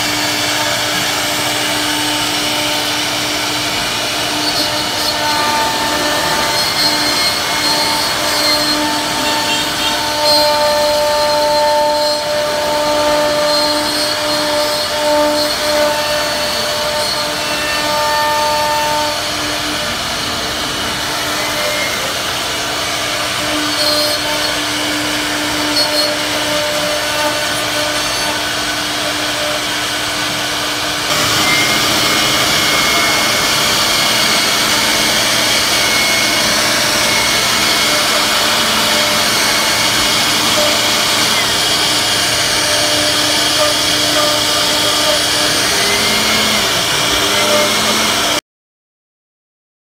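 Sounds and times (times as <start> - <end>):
router spindle cutting wood: 0.0 - 48.4.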